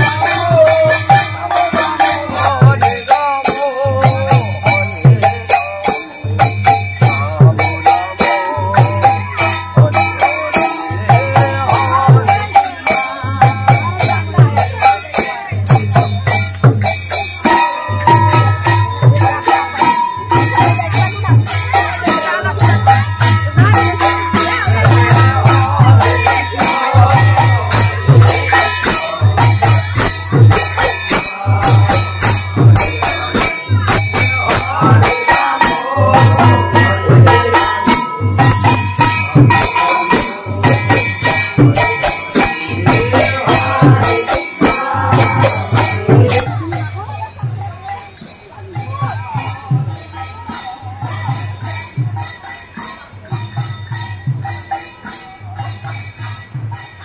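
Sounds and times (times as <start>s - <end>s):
voices chanting: 0.0s - 53.4s
double-headed drum beating: 0.0s - 57.0s
hand cymbals jingling: 0.0s - 57.0s.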